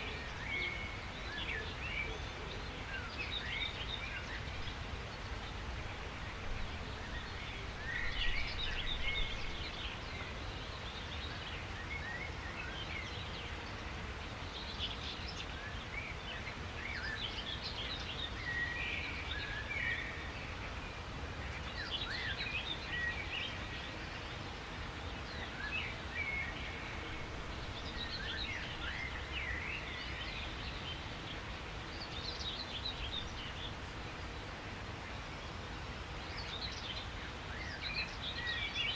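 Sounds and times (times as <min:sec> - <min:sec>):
outdoor background hiss: 0:00.0 - 0:38.9
songbirds chirping and trilling: 0:00.0 - 0:38.9.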